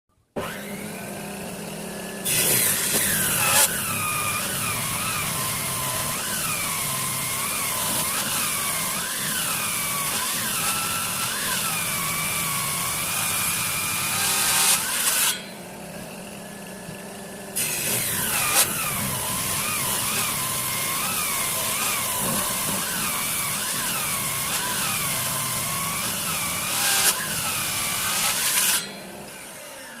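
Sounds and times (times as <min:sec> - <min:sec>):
power tool cutting wood: 0:00.4 - 0:30.0.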